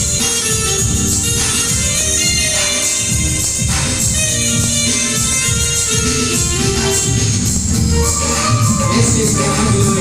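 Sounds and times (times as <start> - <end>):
electronic drum beat: 0.0 - 10.0
keyboard melody: 0.0 - 10.0.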